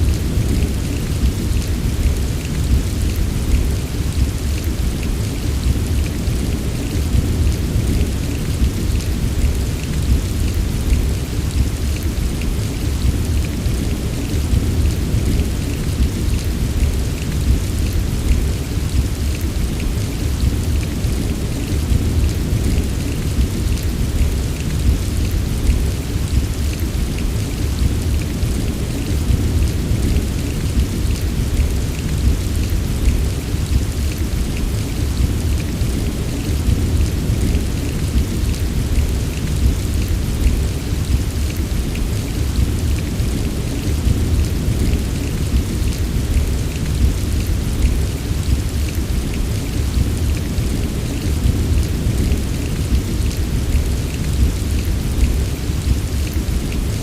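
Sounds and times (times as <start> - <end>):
continuous deep rumble: 0.0 - 56.9
heavy rain: 0.0 - 57.0.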